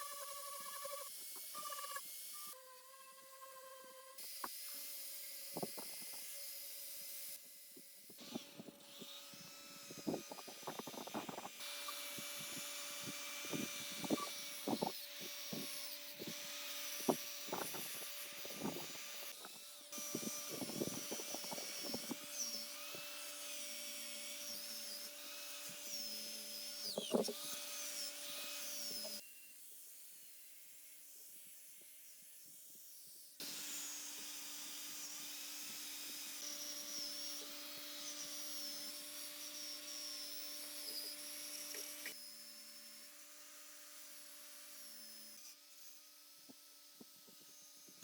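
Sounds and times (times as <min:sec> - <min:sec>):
tool hum and hiss: 0:00.0 - 0:48.0.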